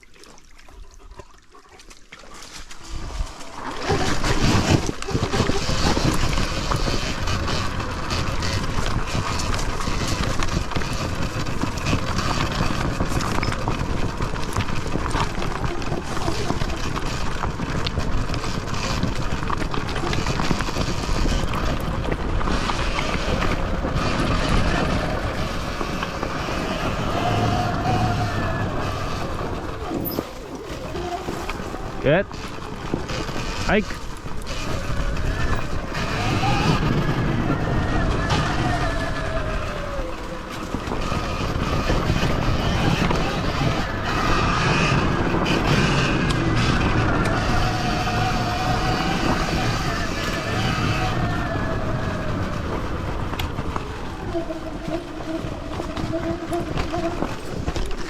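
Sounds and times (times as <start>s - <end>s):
electric dirt bike rushing: 2.3s - 58.0s.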